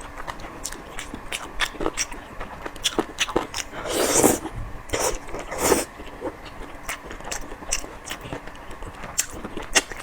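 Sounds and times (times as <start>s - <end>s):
close chewing with crunches: 0.0s - 10.0s.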